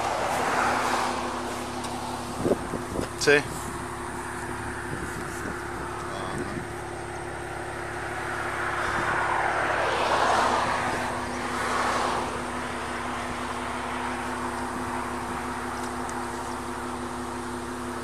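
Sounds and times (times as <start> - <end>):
car passing on highway: 0.0 - 17.2.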